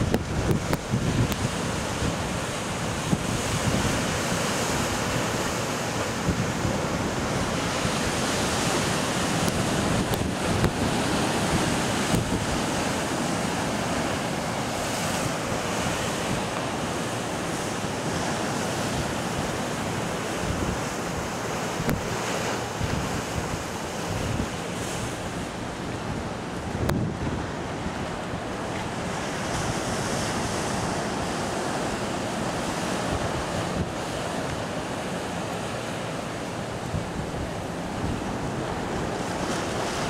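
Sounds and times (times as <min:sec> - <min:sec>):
surf breaking over rocks: 0:00.0 - 0:40.0
wind buffeting microphone: 0:00.0 - 0:40.0.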